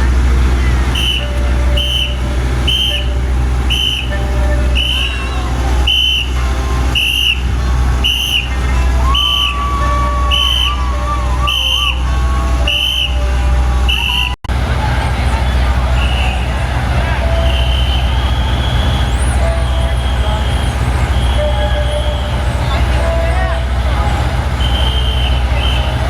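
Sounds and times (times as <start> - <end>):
machinery humming: 0.0 - 26.0
wavering whistle-like tone: 0.9 - 14.4, 15.6 - 26.0.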